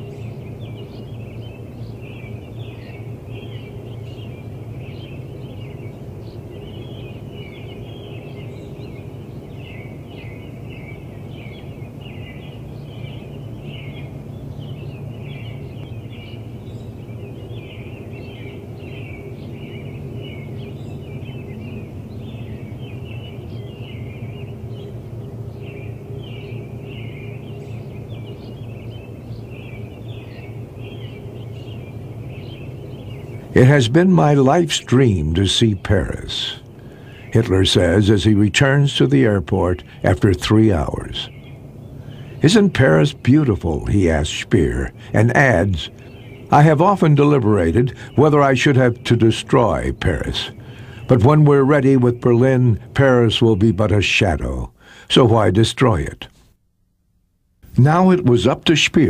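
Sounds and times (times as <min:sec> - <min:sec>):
birds chirping: 0:00.0 - 0:59.0
steady low hum: 0:00.0 - 0:59.0.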